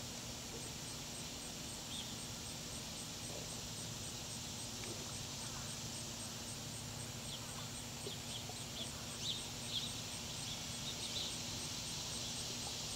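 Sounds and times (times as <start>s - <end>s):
steady hiss: 0.0s - 12.9s.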